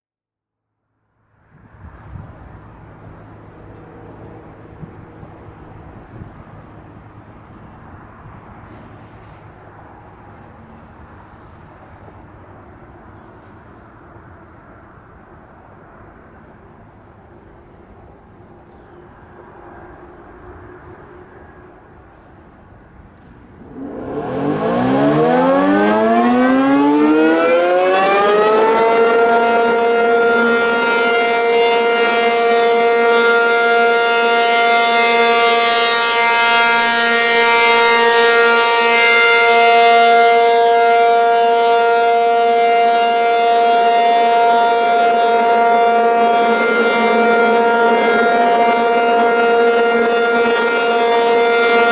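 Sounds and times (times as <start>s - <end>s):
rotating warning siren: 2.2s - 51.9s.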